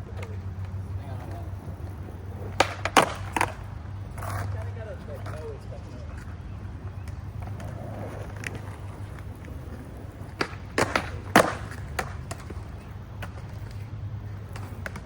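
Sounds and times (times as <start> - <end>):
skateboard clacking on ground: 0.0 - 15.0
skateboard rolling: 0.0 - 15.0.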